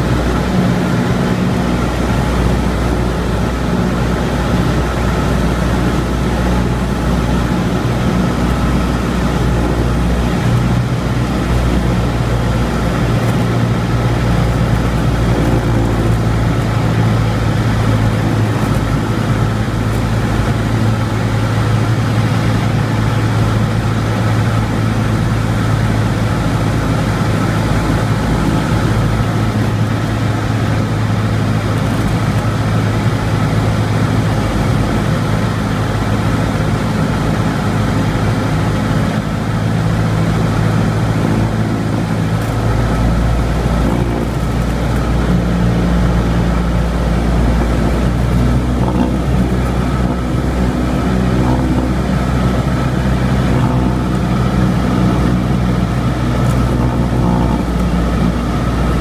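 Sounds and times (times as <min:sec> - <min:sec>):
airplane engine droning in cabin: 0:00.0 - 0:59.0.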